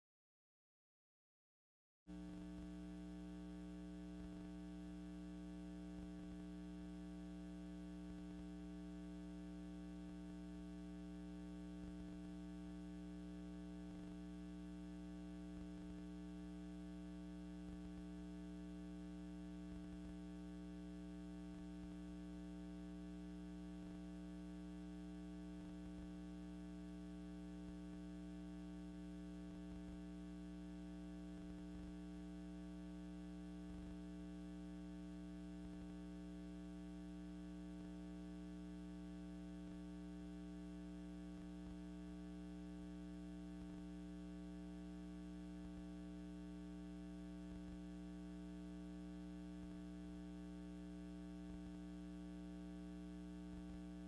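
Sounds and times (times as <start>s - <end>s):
steady electrical hum: 2.1s - 54.0s.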